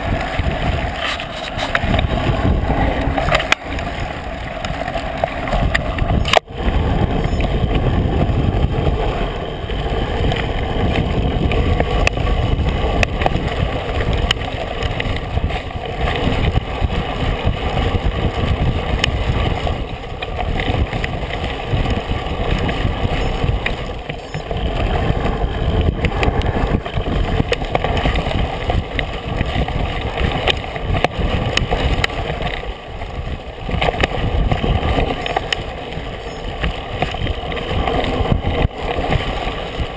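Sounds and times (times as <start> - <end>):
bike rattles and clicks: 0.0 - 39.9
bike tires rolling on dirt: 0.0 - 39.9
wind rumbling on microphone: 0.0 - 39.9.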